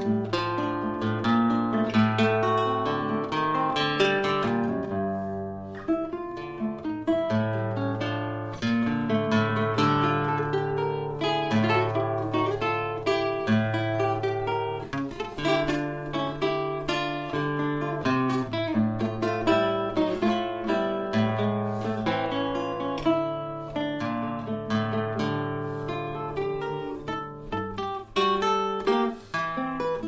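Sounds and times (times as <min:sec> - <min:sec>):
acoustic guitar picking melody: 0:00.0 - 0:30.0.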